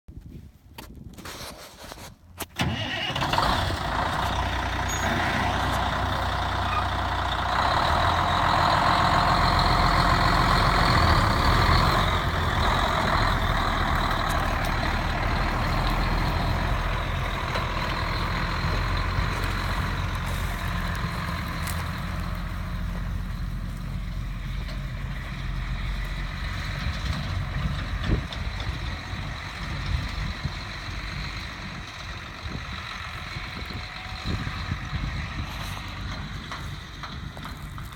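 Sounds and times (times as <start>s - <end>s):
diesel engine running: 2.6s - 37.9s.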